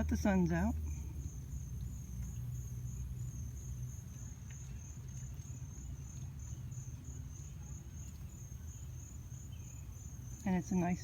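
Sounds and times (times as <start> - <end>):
insect chirping: 0.0 - 11.0.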